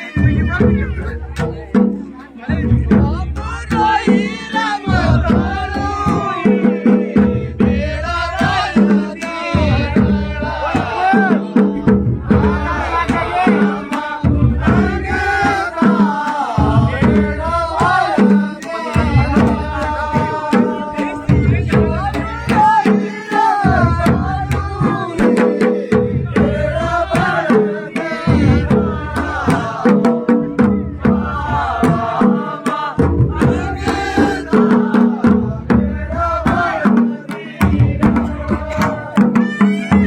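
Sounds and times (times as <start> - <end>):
driving drum beat: 0.0 - 40.0.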